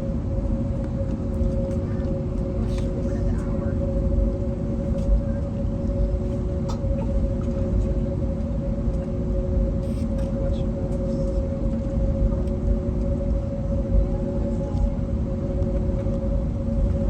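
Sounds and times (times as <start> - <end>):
aircraft engine hum: 0.0 - 17.0
low rumble: 0.0 - 17.0.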